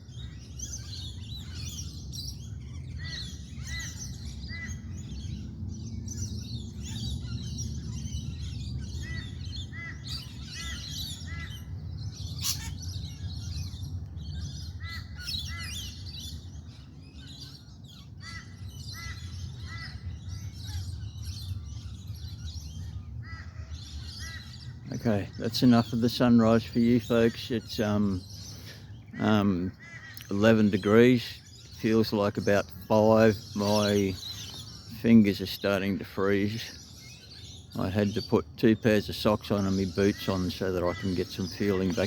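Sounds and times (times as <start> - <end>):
birds chirping and calling: 0.0 - 42.0.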